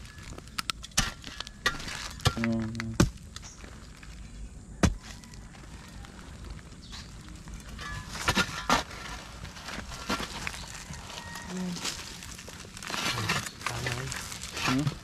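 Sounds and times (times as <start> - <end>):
rubble wood and bottles clinking: 0.0 - 4.2, 6.8 - 15.0.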